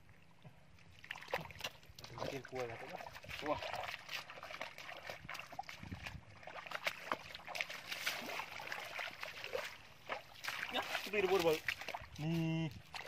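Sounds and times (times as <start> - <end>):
bare feet splashing in muddy water: 0.8 - 13.0.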